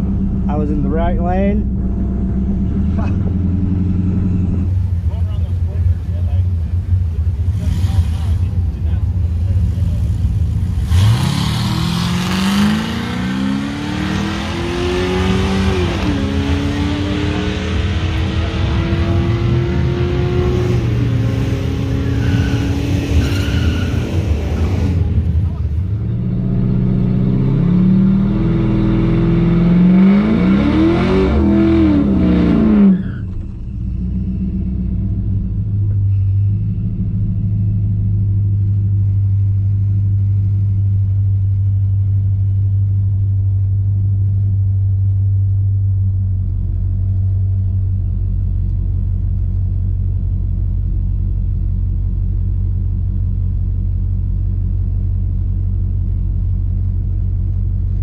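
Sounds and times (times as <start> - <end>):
engine revving and idling: 0.0 - 58.0.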